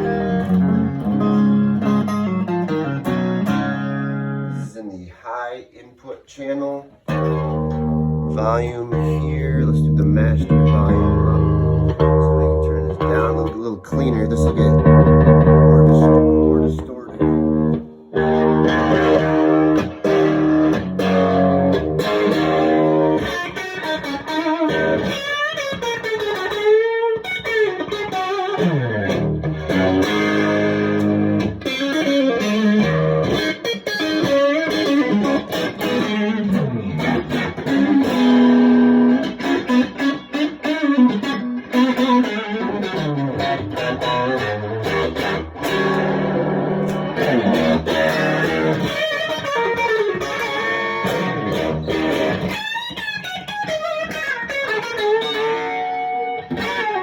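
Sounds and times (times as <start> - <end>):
distorted electric guitar: 0.0 - 4.8, 7.0 - 57.0.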